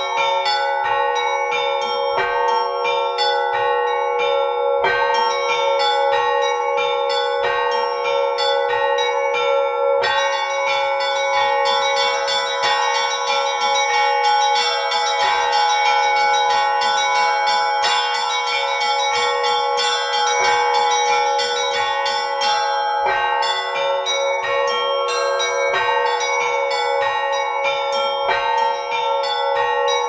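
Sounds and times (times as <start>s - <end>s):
deep church bell: 0.0s - 30.0s
small church bells ringing rapidly: 0.0s - 30.0s.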